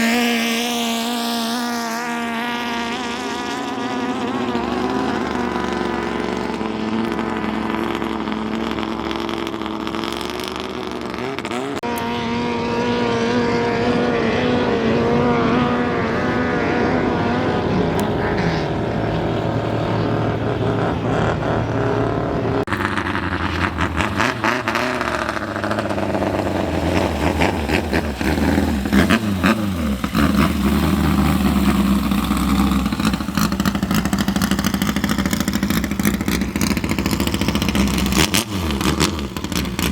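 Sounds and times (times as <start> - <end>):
speedboat engines revving: 0.0 - 39.9.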